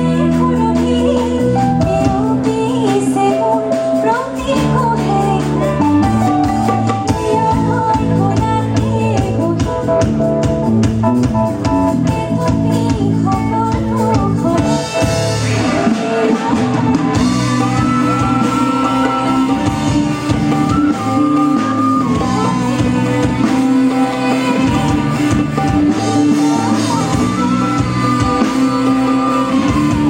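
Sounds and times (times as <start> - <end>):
live band music: 0.0 - 30.0.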